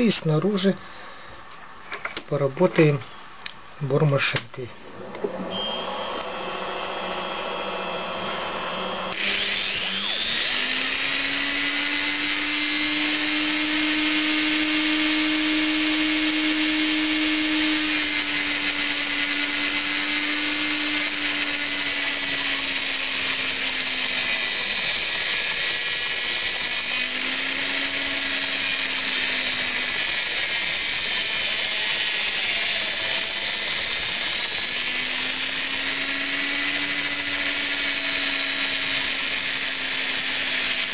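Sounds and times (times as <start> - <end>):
rotary tool grinding steel: 4.8 - 40.9.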